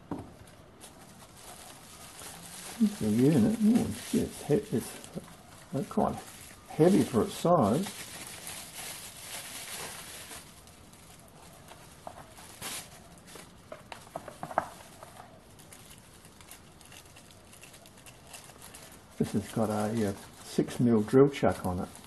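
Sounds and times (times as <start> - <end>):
bubble wrap rustling: 0.3 - 22.0.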